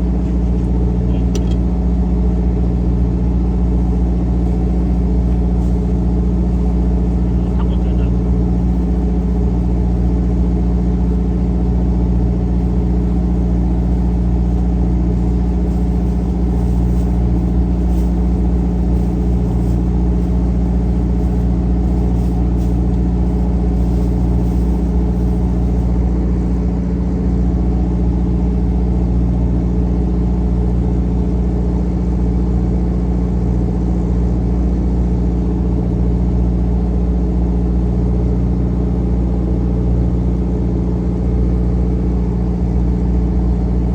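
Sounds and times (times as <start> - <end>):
boat diesel engine drone: 0.0 - 43.9.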